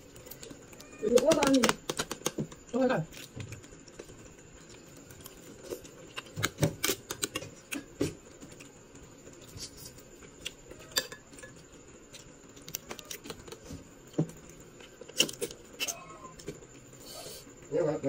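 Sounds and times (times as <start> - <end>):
chewing: 0.0 - 16.9.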